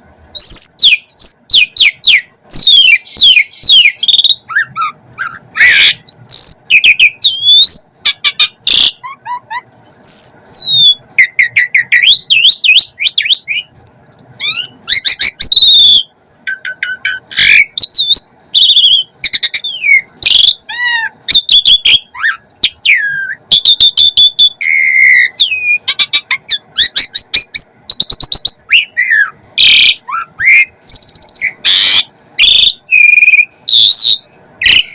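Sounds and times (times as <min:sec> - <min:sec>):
starling singing: 0:00.4 - 0:34.9.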